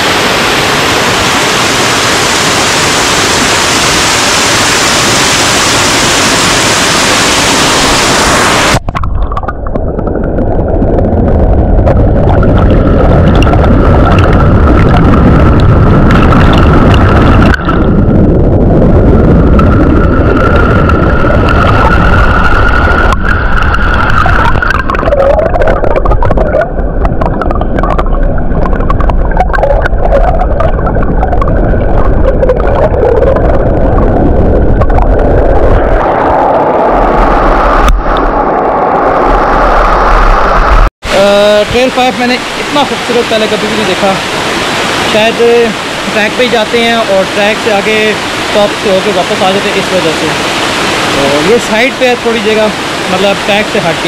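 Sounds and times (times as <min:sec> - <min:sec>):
waterfall roaring: 0:00.0 - 0:09.8, 0:11.5 - 0:54.0
stream water rushing: 0:00.0 - 0:10.7, 0:12.2 - 0:17.9, 0:19.1 - 0:54.0.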